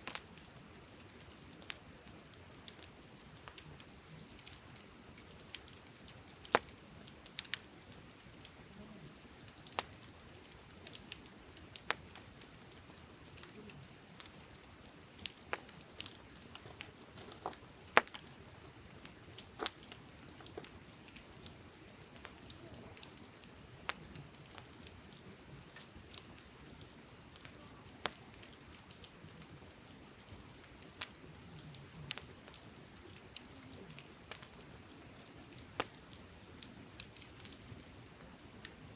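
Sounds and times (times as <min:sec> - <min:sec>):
campfire crackling and popping: 0:00.0 - 0:38.9
faint steady hiss: 0:00.0 - 0:38.9.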